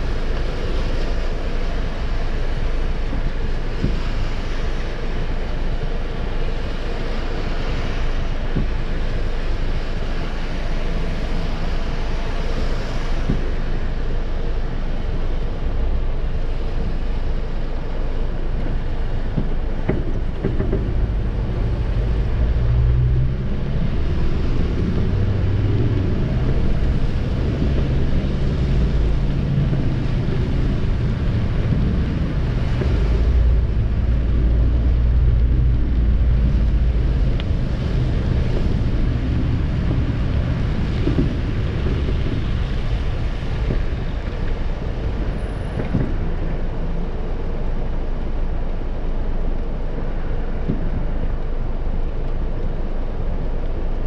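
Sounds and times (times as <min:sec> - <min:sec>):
tyres hissing on wet pavement: 0:00.0 - 0:53.2
engine and road rumble: 0:00.0 - 0:54.0.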